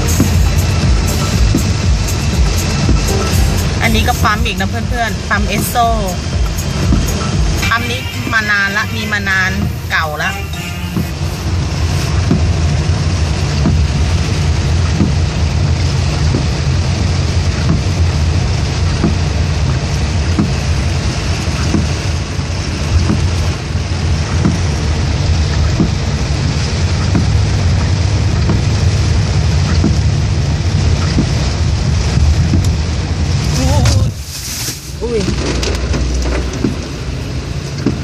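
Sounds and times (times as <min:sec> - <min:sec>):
rain hissing on car: 0:00.0 - 0:38.0
road and engine rumble: 0:00.0 - 0:38.0.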